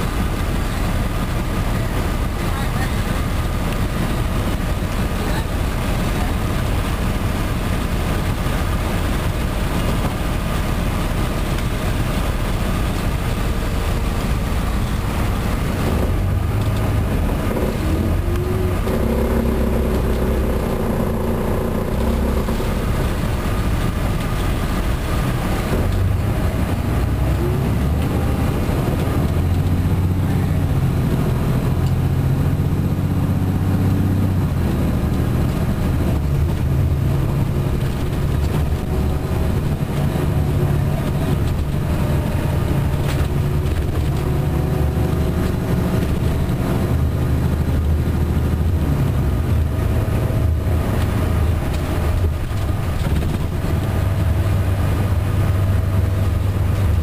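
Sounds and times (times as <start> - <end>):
diesel coach engine: 0.0 - 57.0.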